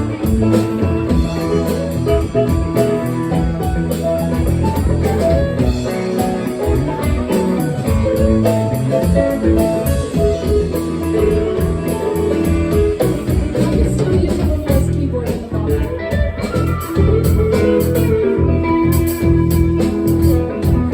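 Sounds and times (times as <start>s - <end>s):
live blues band playing: 0.0s - 20.9s.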